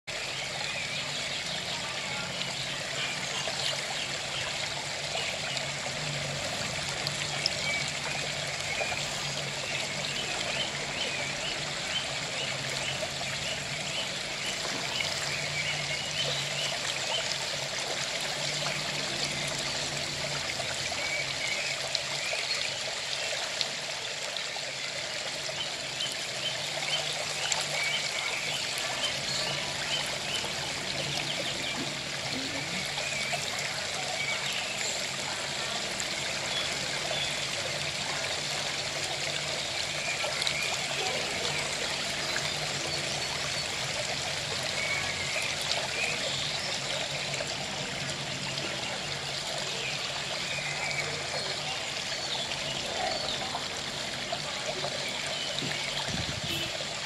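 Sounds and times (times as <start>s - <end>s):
water flowing: 0.0s - 57.0s.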